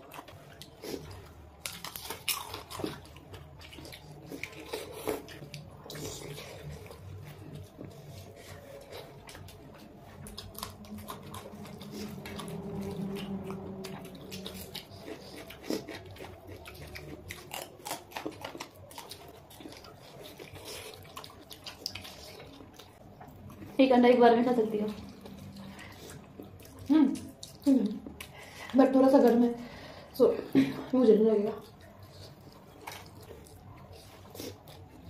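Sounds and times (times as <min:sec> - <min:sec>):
wet chewing and mouth sounds: 0:00.0 - 0:35.0.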